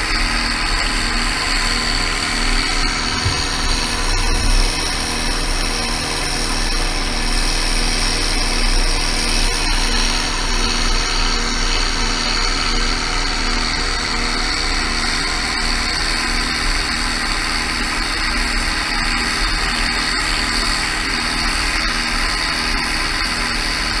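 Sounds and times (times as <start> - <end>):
sprayer fan hissing air: 0.0 - 24.0
tractor engine running: 0.0 - 24.0.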